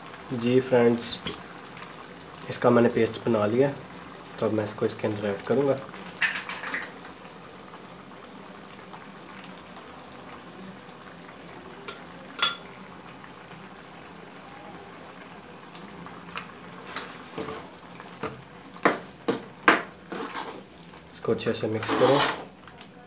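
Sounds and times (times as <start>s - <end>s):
food simmering in pan: 0.0s - 23.0s.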